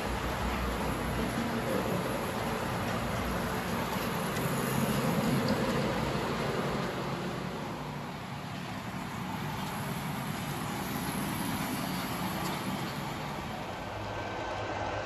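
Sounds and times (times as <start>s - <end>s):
model trains running: 0.0s - 15.0s.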